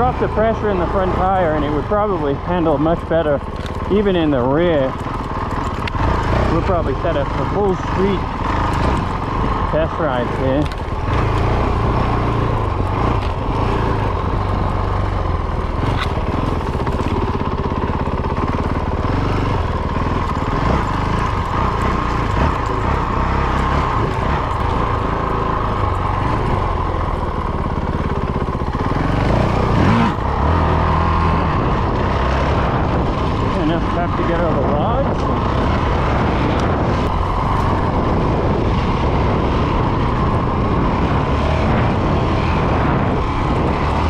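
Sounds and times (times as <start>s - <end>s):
dirt bike engine running: 0.0s - 44.0s.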